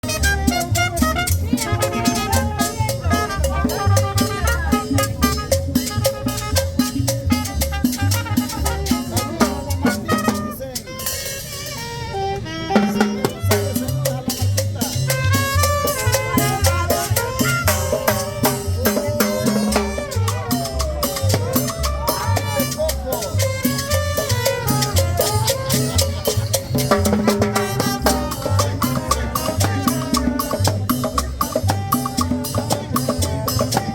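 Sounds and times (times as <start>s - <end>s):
latin dance music: 0.0s - 33.9s.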